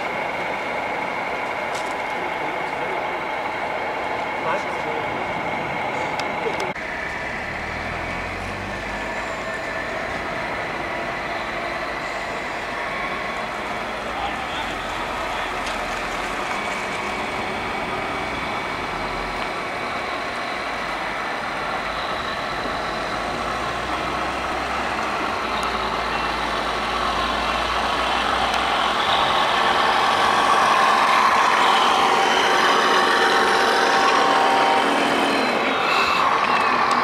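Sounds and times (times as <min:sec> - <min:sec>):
model truck engine sound: 0:00.0 - 0:37.0.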